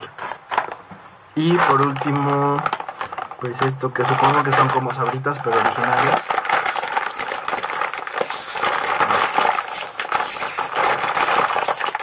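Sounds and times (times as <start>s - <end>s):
plastic chip bag crinkling: 1.4s - 12.0s.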